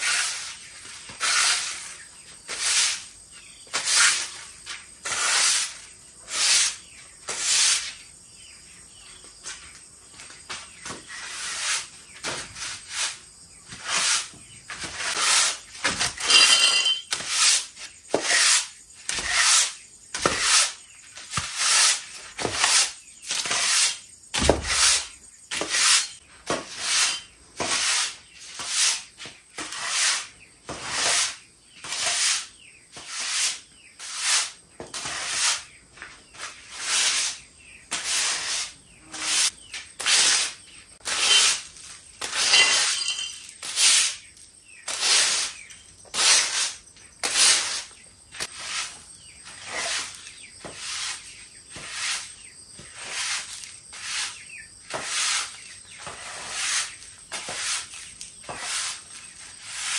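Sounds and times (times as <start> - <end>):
broom swishing over ground: 0.0 - 59.9.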